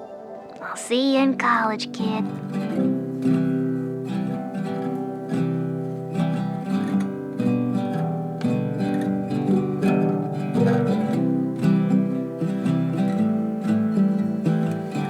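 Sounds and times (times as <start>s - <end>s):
acoustic guitar plucked and strummed: 0.0s - 15.0s.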